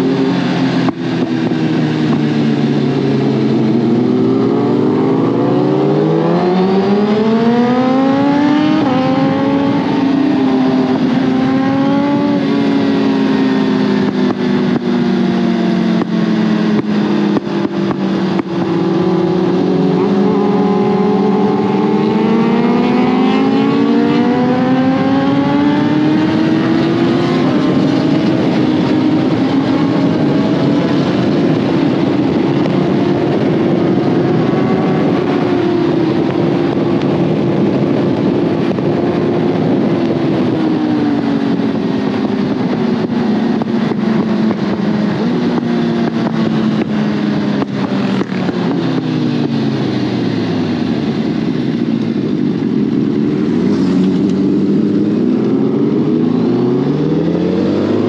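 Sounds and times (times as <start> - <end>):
heavy wind rush: 0.0 - 58.0
motorcycle engine at speed: 0.0 - 58.0.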